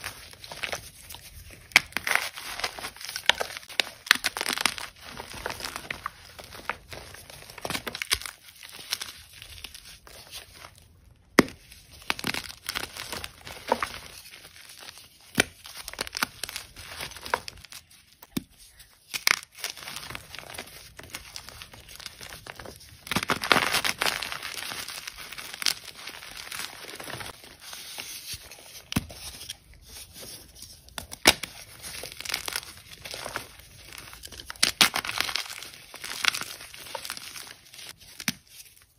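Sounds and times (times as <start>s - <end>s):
chalk crunching and crumbling: 0.0s - 38.9s.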